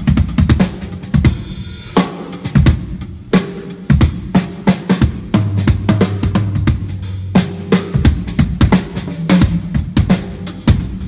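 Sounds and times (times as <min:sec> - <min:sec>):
drum kit playing: 0:00.0 - 0:11.0.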